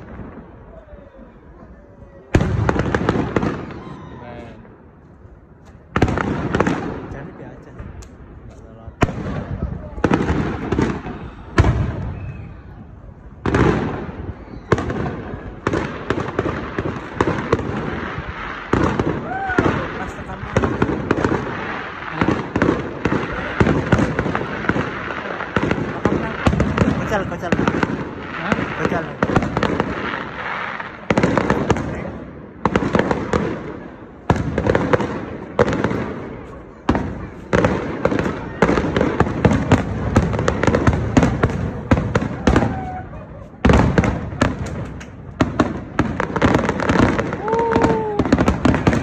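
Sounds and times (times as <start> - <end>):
firework shells booming: 2.3 - 3.8, 5.7 - 49.0
sharp cracks and crackles: 5.6 - 12.0, 13.4 - 49.0.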